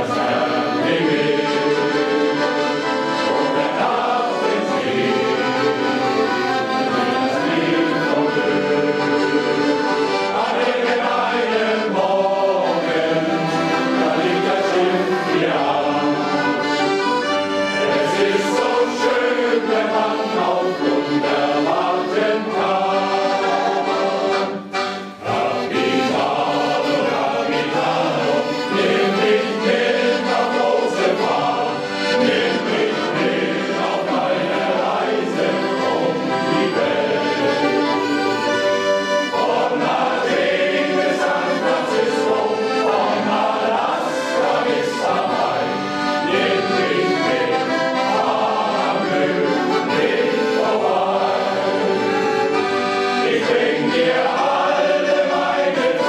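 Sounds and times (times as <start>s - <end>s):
accordion: 0.0s - 56.0s
men's choir singing: 0.0s - 56.0s.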